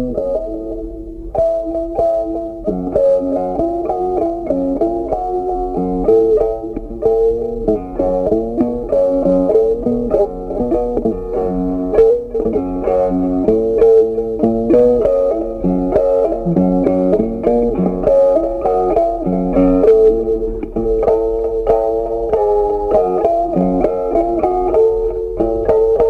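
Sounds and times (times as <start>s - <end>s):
bass line: 0.0s - 26.0s
plucked guitar music: 0.0s - 26.0s.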